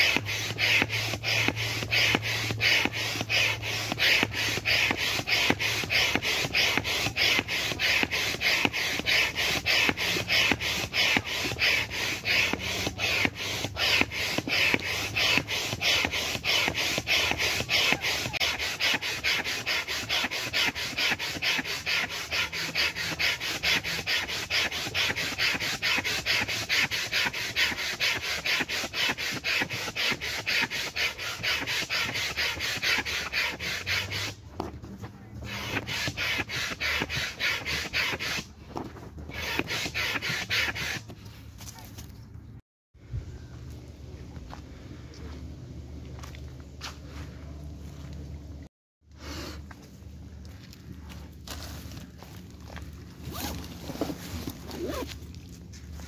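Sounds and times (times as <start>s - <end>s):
hand air pump strokes: 0.0s - 41.4s, 51.5s - 56.0s.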